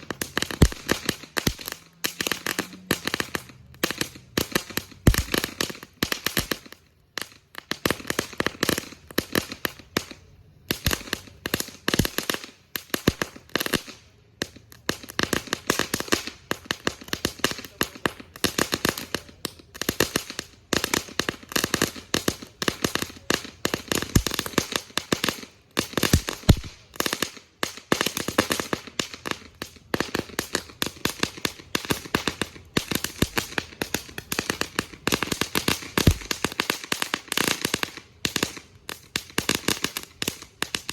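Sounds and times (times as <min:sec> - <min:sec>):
firework bangs and crackles: 0:00.0 - 0:40.9.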